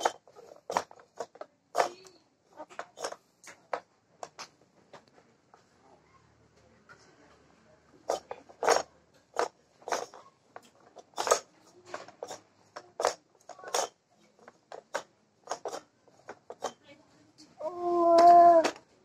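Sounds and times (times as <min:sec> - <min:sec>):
plastic toys clicking and clacking: 0:00.0 - 0:05.7, 0:08.0 - 0:18.9.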